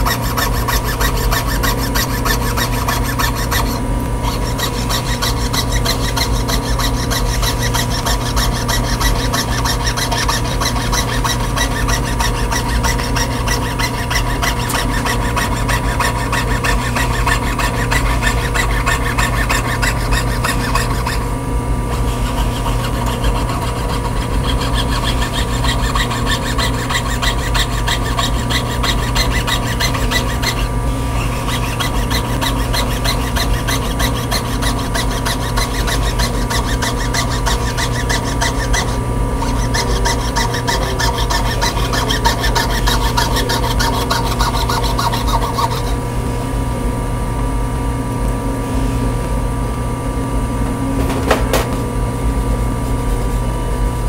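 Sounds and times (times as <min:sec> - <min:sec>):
saw rasping on metal: 0:00.0 - 0:46.2.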